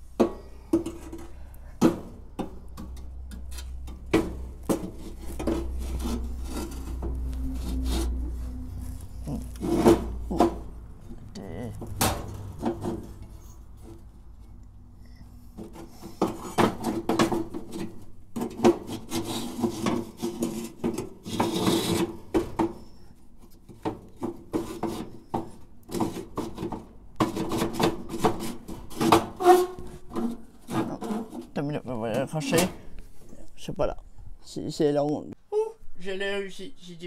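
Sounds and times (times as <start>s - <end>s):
metal plate scraping and rubbing: 0.0s - 11.2s, 11.8s - 14.5s, 15.3s - 32.8s.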